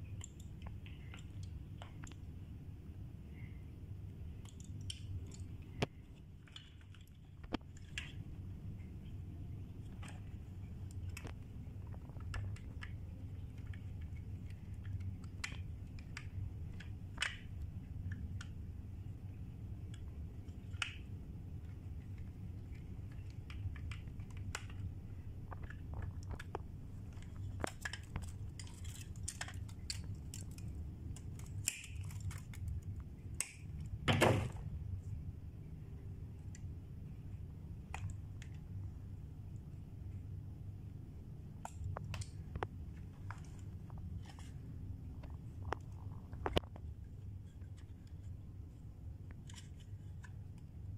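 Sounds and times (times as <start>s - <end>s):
small clicks and taps: 0.0s - 2.3s, 4.2s - 34.0s, 36.4s - 38.9s, 41.6s - 48.4s
steady low hum: 0.0s - 50.9s.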